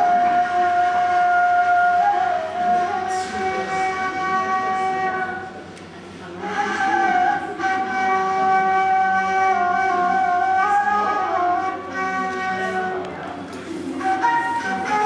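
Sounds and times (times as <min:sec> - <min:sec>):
wooden flute playing: 0:00.0 - 0:15.0.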